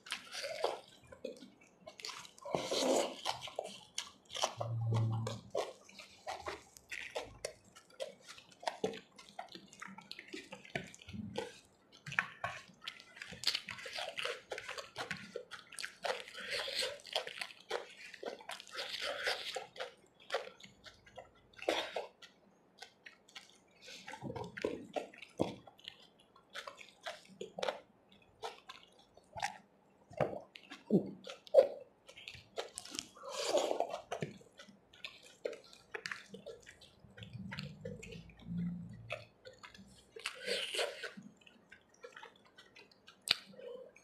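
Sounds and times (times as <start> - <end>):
wet chewing and finger squishes: 0.0 - 44.0.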